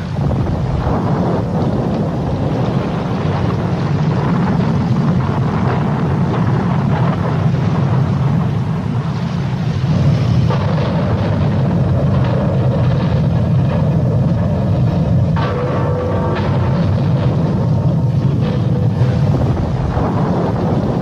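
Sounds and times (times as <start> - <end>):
storm wind and sea rumble: 0.0 - 21.0
wind buffeting microphone: 0.0 - 21.0.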